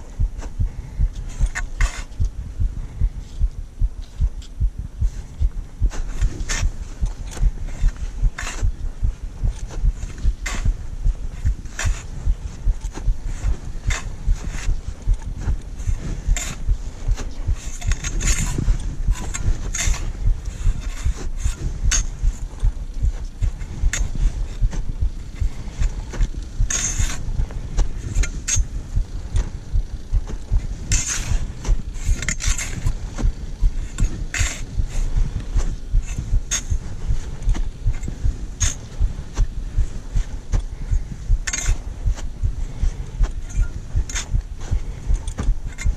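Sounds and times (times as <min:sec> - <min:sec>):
footsteps on snow: 0:00.0 - 0:45.9.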